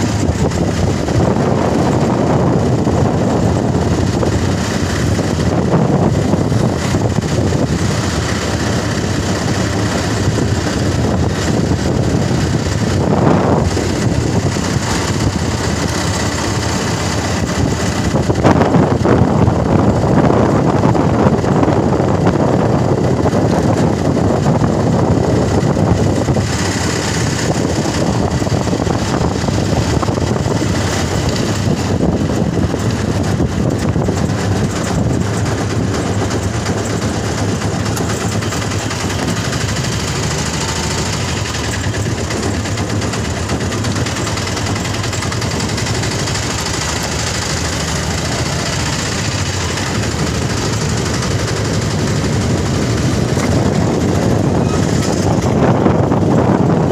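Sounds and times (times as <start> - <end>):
vehicle engine rumble: 0.0 - 56.9.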